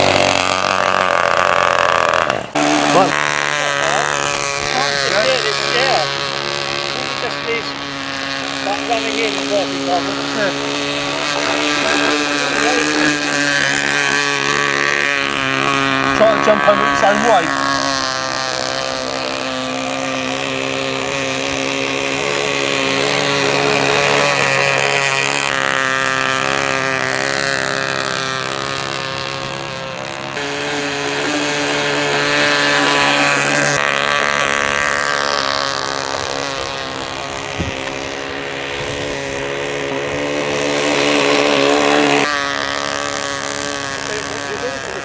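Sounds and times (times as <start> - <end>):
model boat engine passing: 0.0 - 45.0.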